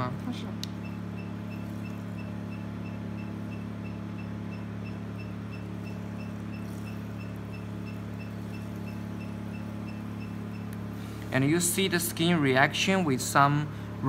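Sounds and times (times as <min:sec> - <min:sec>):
cooling system hum: 0:00.0 - 0:14.0.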